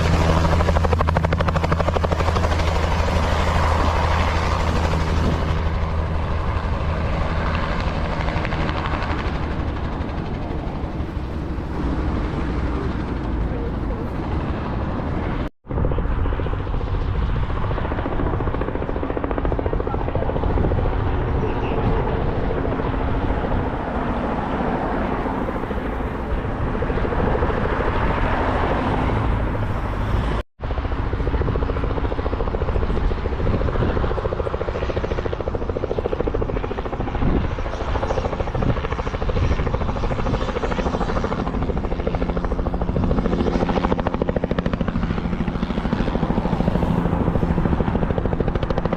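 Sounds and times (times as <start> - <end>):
helicopter engine and rotors droning: 0.0 - 48.9.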